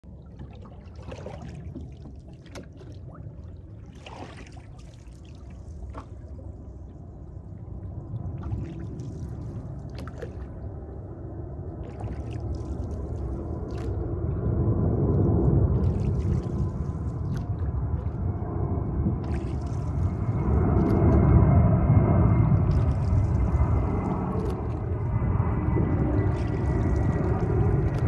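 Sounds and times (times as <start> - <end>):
oars splashing and dripping: 0.0 - 18.6, 19.2 - 21.5, 22.5 - 28.0
low steady rumble: 0.0 - 28.0
water trickling along hull: 0.0 - 28.0.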